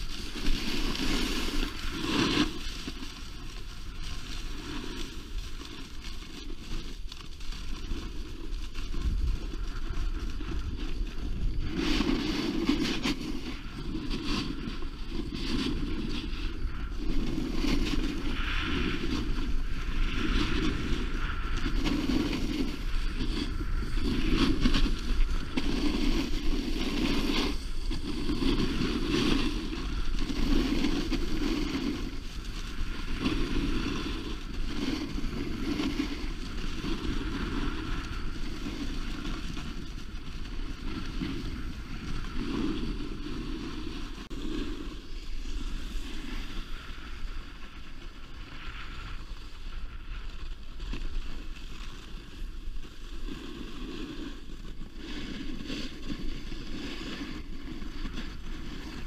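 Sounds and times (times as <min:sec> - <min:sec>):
snowboard scraping on snow: 0:00.0 - 0:59.0
wind rumbling on microphone: 0:00.0 - 0:59.0.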